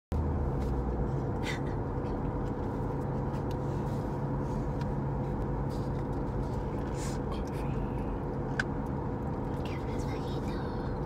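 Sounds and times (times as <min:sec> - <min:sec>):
engine humming: 0:00.1 - 0:11.0.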